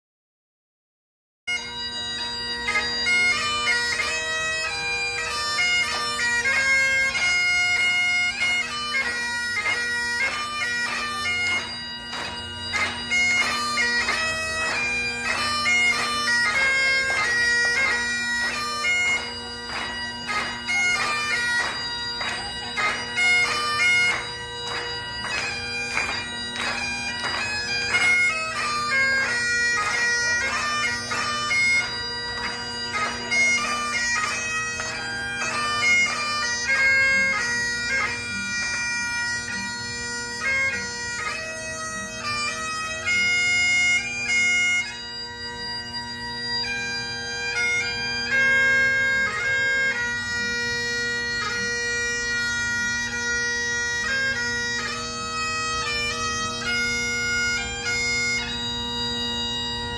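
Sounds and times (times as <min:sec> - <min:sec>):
bagpipes playing dance tune: 0:01.5 - 0:59.9.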